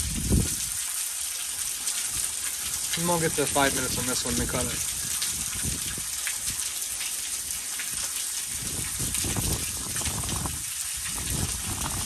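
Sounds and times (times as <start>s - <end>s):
heavy rain on grass: 0.0s - 12.0s
water streaming and splashing: 0.0s - 12.0s.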